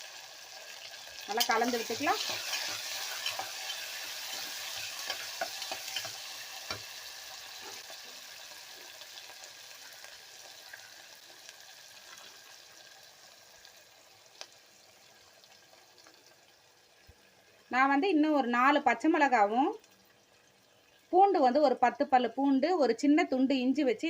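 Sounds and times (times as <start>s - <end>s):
onions sizzling in oil: 0.0s - 23.7s.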